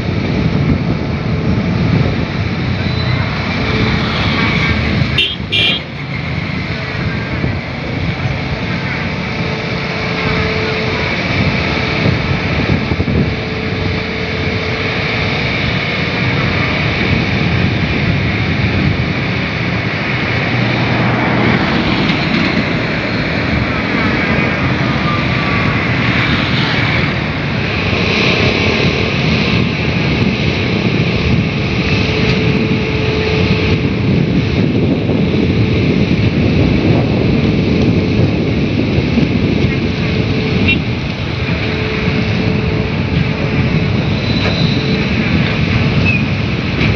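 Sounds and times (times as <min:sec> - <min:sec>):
steady engine noise: 0:00.0 - 0:46.9
wind buffeting microphone: 0:00.0 - 0:46.9.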